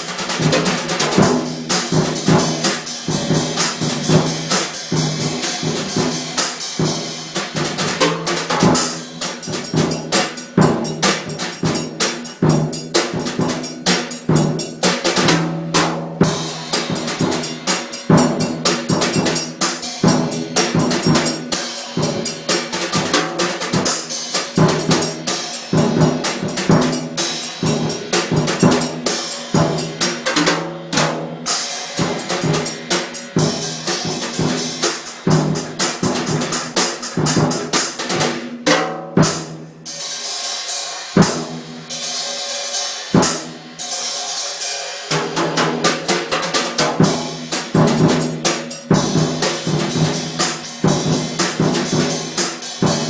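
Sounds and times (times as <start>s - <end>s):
drum kit music: 0.0s - 53.0s.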